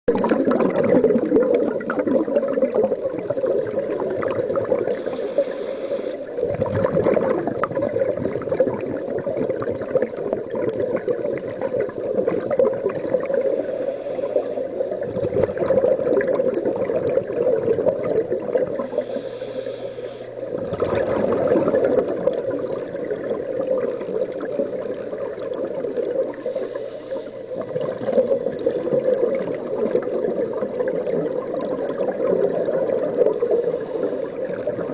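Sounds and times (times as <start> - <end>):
gurgling bubbles from divers: 0.1 - 19.7, 20.4 - 34.9
muffled underwater rushing: 0.1 - 34.9.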